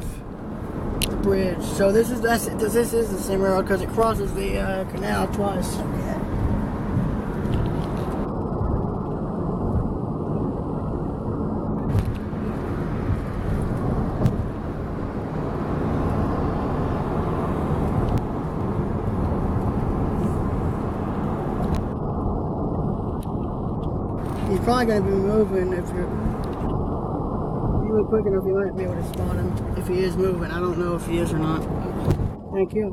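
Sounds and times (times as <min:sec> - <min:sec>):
car cabin road noise: 0:00.0 - 0:32.9.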